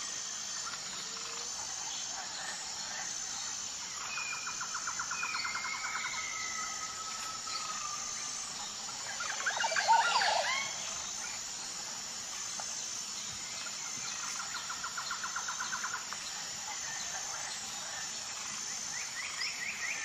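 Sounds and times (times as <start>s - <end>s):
insect trilling: 0.0s - 20.0s.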